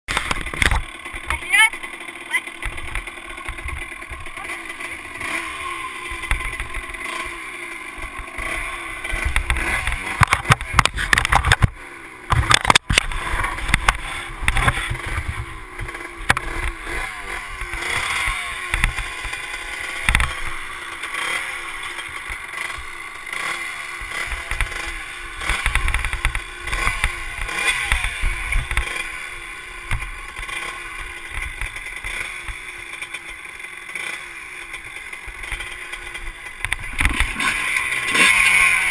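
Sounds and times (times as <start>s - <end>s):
motocross bike engine revving: 0.1s - 38.9s.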